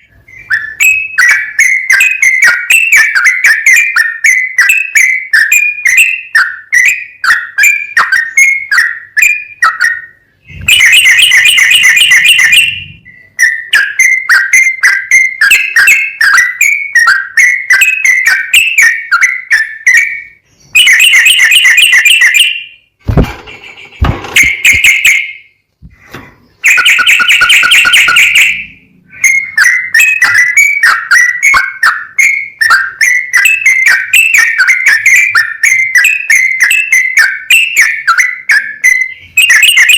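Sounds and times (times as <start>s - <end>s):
rapid bird trilling: 0.0s - 22.8s, 26.4s - 39.9s
bird singing whistled notes: 0.0s - 22.9s, 23.9s - 25.6s, 26.4s - 39.9s.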